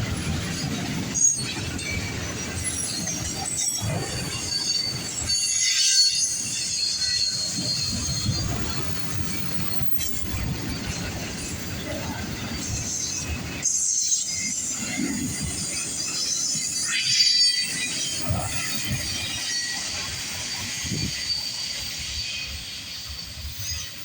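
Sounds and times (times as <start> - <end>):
train wheels squealing: 0.0 - 24.0.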